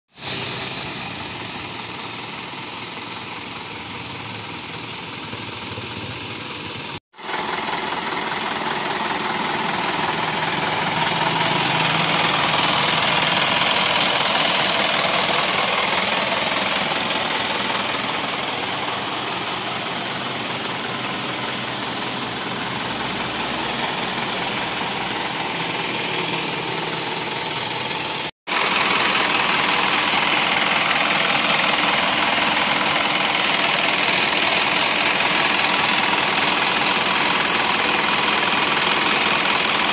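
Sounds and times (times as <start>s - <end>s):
diesel truck engine idling: 0.2s - 39.9s.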